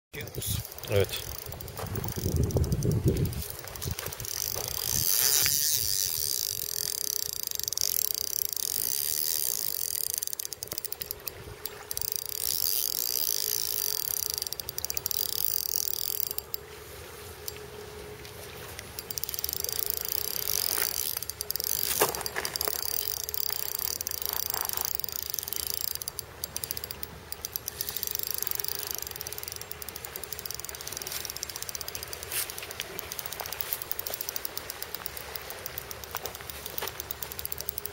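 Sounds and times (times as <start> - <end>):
fishing reel whirring: 0.2 - 17.7, 18.7 - 37.9.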